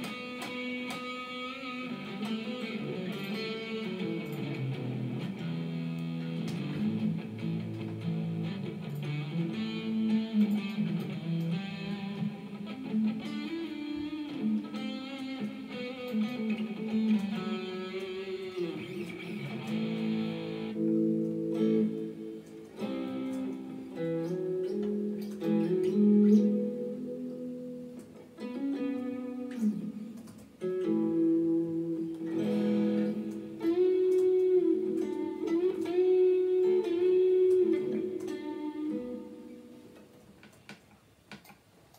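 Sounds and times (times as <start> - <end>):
guitar music through speaker: 0.0 - 40.7.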